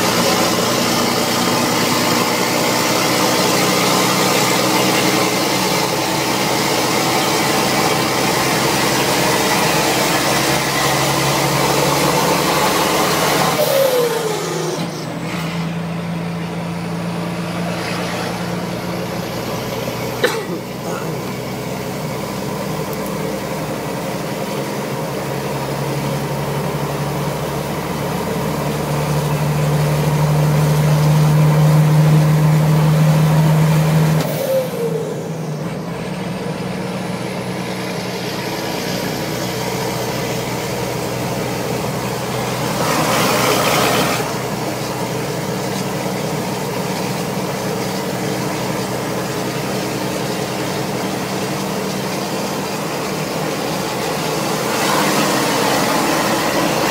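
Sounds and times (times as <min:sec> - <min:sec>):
truck engine running: 0:00.0 - 0:56.9.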